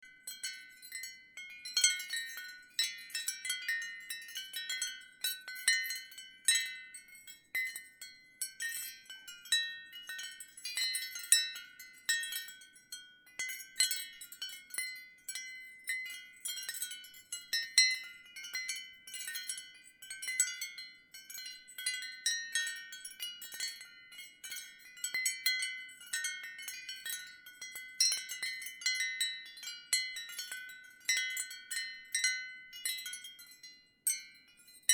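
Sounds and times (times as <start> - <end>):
ceramic wind chimes tinkling: 0.0 - 34.9.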